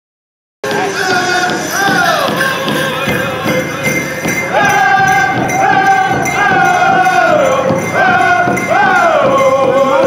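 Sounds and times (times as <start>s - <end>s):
big drum steady beat: 0.6s - 10.0s
group singing high held voices: 0.6s - 10.0s
jingling bells: 0.7s - 10.0s.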